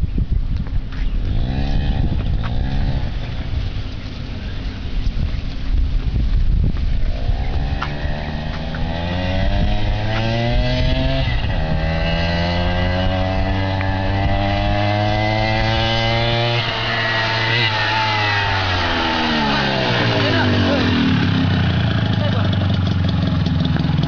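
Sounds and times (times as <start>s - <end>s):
two-stroke minibike engine revving: 1.2s - 4.7s, 6.9s - 24.0s.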